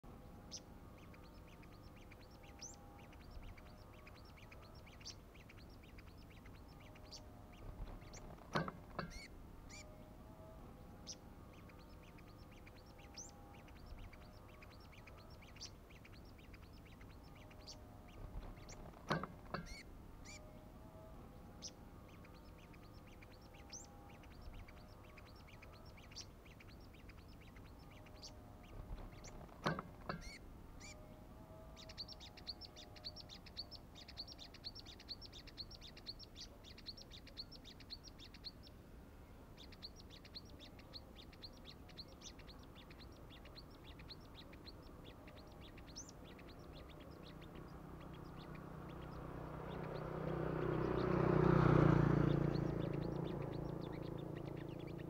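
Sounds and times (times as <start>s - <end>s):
loud full bird calls: 0.0s - 55.0s
small songbirds chirping: 0.0s - 55.0s.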